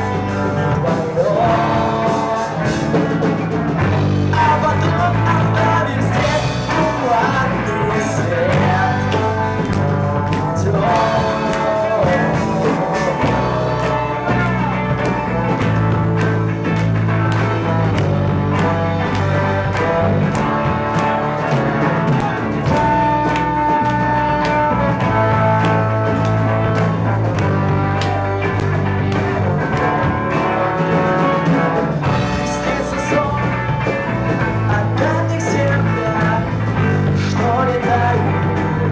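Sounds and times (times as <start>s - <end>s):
drums beating: 0.0s - 38.9s
rock band playing live: 0.0s - 38.9s.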